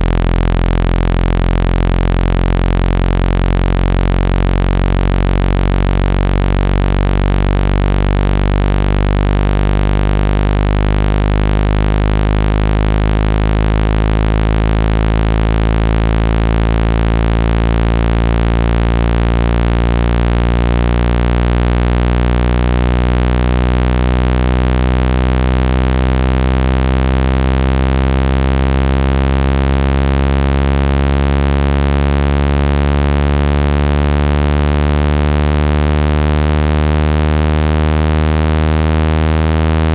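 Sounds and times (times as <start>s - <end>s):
buzzy electronic tone rising: 0.0s - 39.9s.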